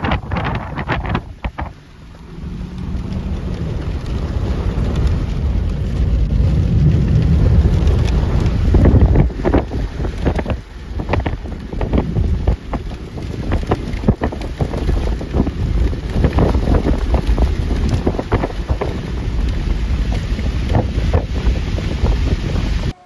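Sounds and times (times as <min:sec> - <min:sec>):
sharp crackles: 0:00.0 - 0:23.0
storm wind buffeting microphone: 0:00.0 - 0:23.0.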